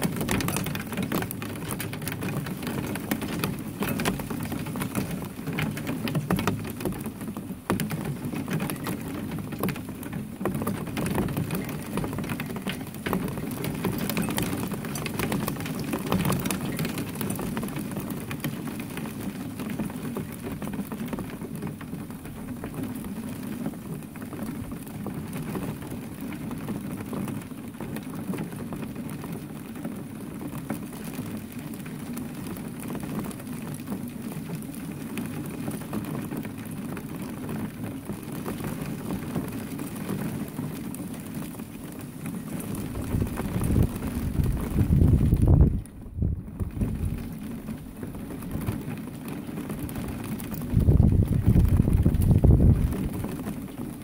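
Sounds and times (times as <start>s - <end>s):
rain pattering on hard surfaces: 0.0s - 54.0s
raindrop ticks: 0.0s - 54.0s.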